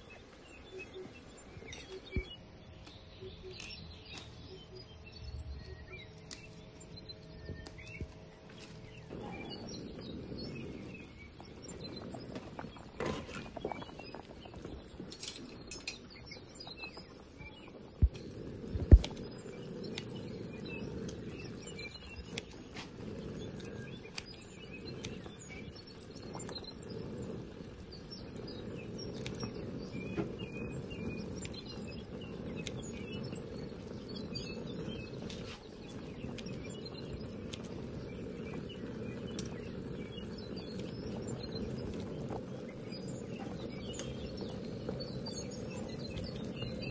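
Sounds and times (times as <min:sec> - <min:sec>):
broth bubbling at a boil: 0:00.0 - 0:46.9
faint birds chirping: 0:00.0 - 0:46.9.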